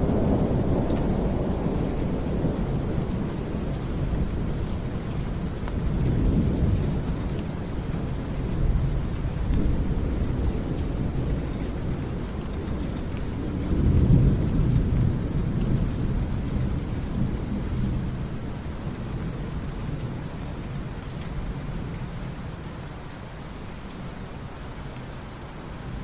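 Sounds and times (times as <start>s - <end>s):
low rumble of thunder: 0.0s - 26.0s
steady rain: 0.0s - 26.0s.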